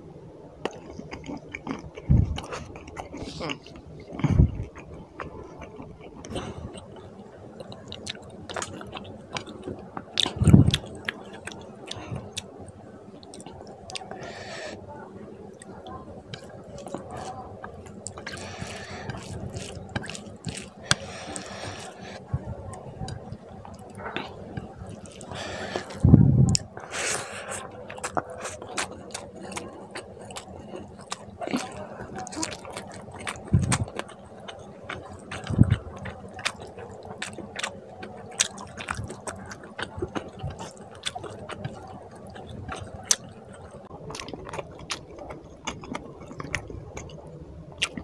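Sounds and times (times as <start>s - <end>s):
wet chewing and lip-smacking: 0.6s - 7.0s, 7.6s - 12.5s, 16.3s - 48.0s.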